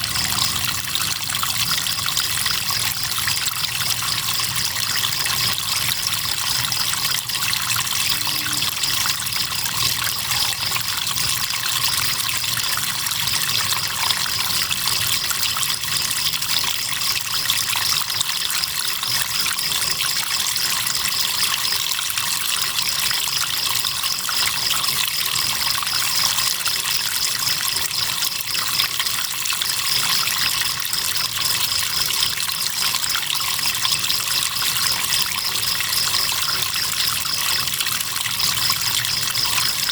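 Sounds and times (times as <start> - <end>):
crickets chirping: 0.0 - 16.2, 23.6 - 39.9.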